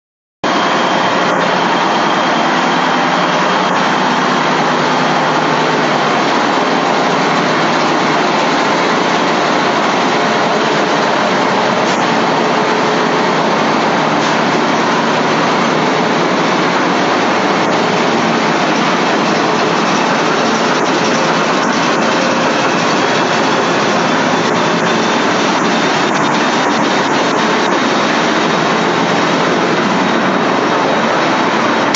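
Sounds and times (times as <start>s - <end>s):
ship diesel engines droning: 0.5s - 31.9s.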